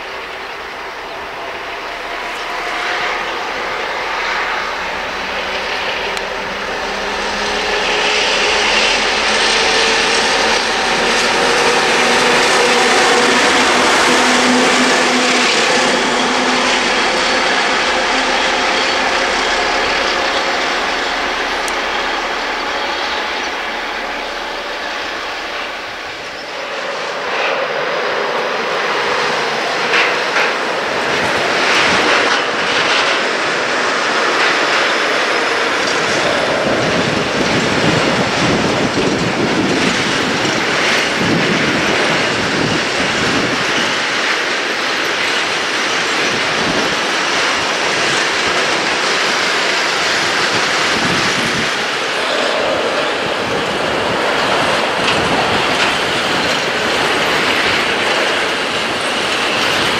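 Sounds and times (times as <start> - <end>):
train wheels running over rails: 0.0 - 59.9.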